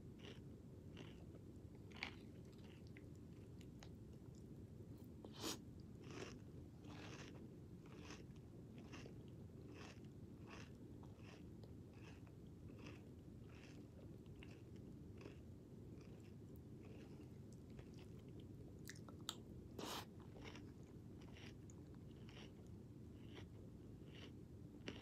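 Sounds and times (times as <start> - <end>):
wet crunchy chewing: 0.2 - 4.4, 5.3 - 25.0.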